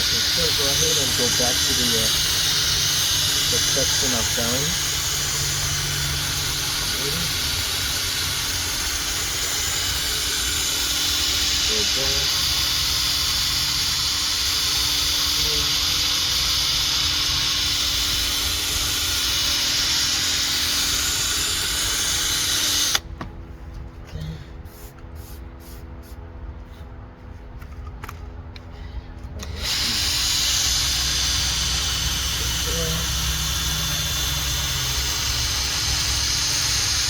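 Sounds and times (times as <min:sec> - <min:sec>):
power sander whirring: 0:00.0 - 0:23.1, 0:29.3 - 0:37.0.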